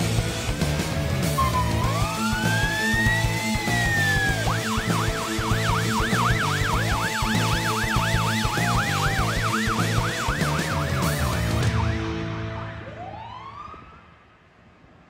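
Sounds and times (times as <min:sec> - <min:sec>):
ambulance siren yelp: 0:01.2 - 0:14.2
rising siren wail: 0:01.2 - 0:14.4.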